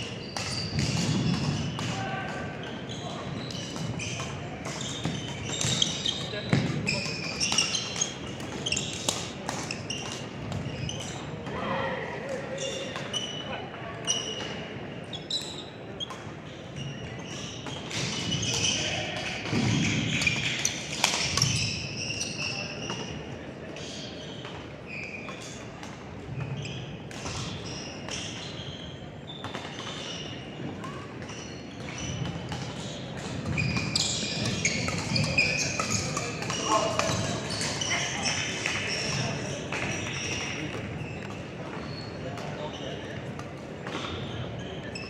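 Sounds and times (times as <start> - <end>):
sneakers squeaking on court: 0.0 - 1.9, 2.5 - 11.3, 12.6 - 23.2, 23.8 - 45.0
murmur of voices: 0.0 - 45.0.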